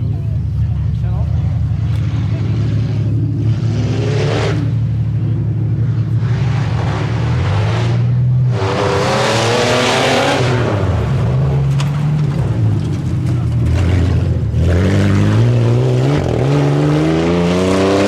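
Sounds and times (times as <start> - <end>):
truck engine rumbling and revving: 0.0 - 18.0.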